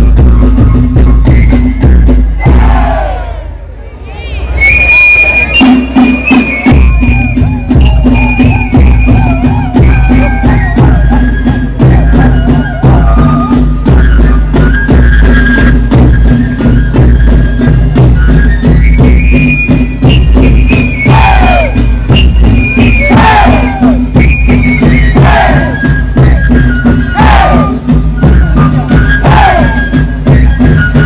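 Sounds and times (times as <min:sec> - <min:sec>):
steady low drum beat: 0:00.0 - 0:03.2, 0:05.6 - 0:31.0.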